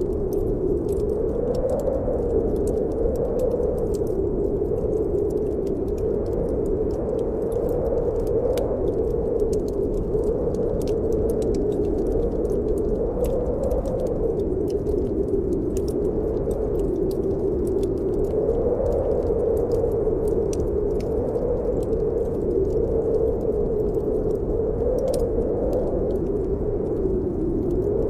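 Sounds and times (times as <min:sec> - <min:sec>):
wind blowing: 0:00.0 - 0:28.0
wood fire crackling: 0:00.0 - 0:28.0.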